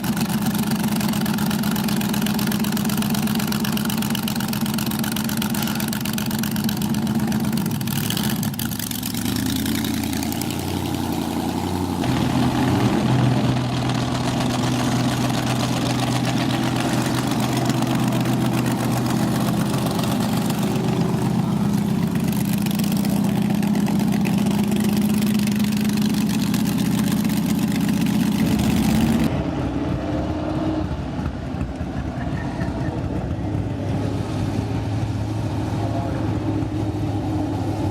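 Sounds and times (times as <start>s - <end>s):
race car engines idling and revving: 0.0s - 37.9s.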